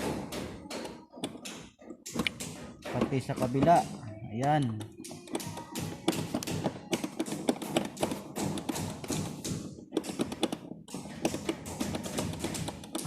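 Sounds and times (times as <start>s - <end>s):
engine parts tapping and knocking: 0.0s - 13.0s.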